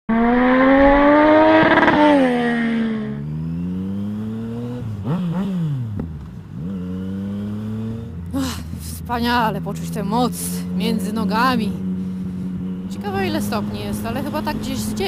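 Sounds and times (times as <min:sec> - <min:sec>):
motorcycle engine accelerating: 0:00.1 - 0:15.0.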